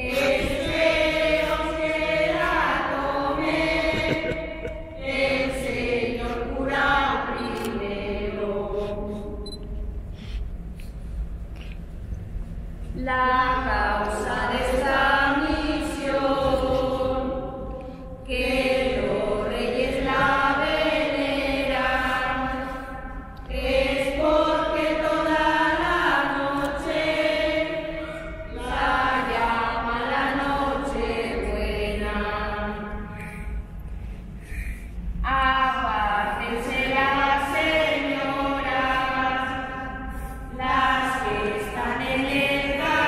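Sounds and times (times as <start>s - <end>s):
women singing together: 0.0s - 9.6s, 13.0s - 33.3s, 35.2s - 43.0s.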